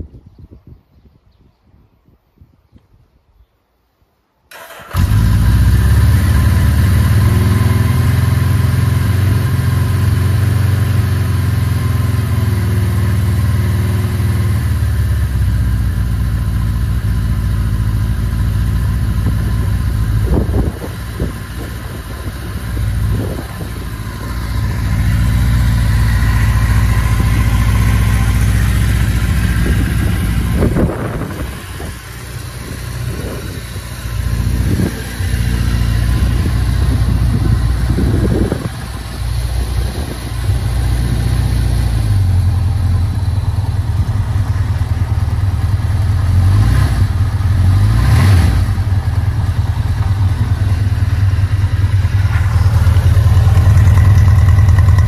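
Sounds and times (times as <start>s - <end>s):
motorcycle engine idling: 4.6s - 47.7s, 48.6s - 55.0s.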